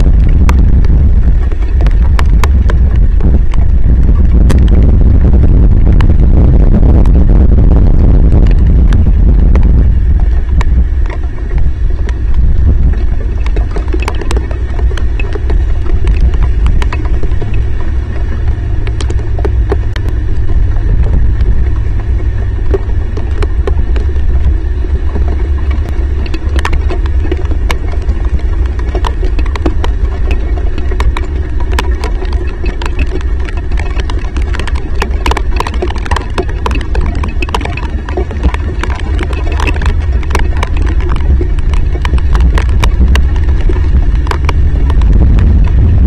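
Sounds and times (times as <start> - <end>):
heavy rain rumble: 0.0 - 46.0
raindrops ticking on camera: 0.0 - 46.0.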